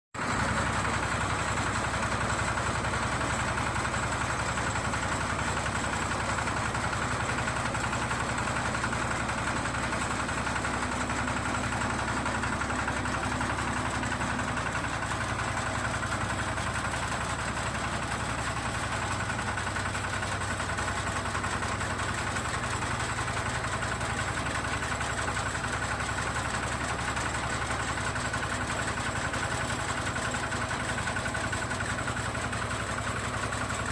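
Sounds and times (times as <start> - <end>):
combine harvester engine drone: 0.2 - 33.9.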